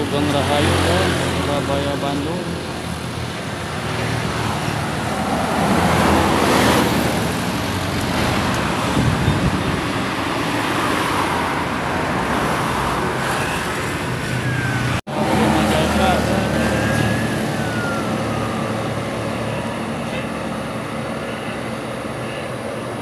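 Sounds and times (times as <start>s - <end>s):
bus passing uphill: 0.0s - 23.0s
steady traffic noise: 0.0s - 23.0s.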